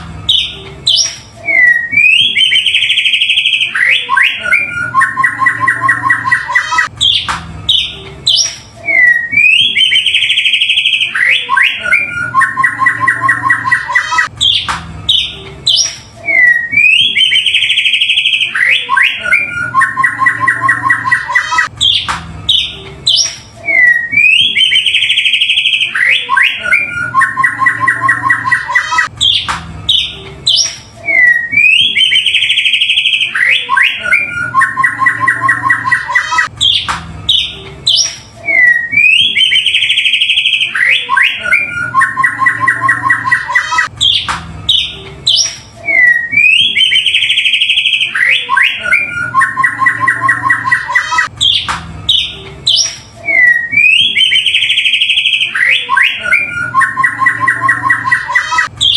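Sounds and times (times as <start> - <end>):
bird song recording: 0.0 - 58.9.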